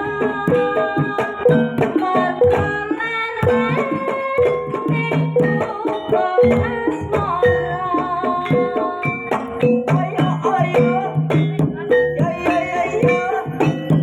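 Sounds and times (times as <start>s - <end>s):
hand drums beating: 0.0s - 14.0s.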